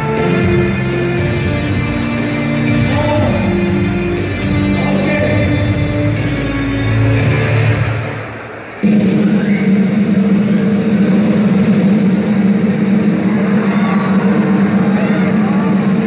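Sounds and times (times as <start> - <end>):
loud low drone: 0.0 - 16.0
music: 0.0 - 16.0.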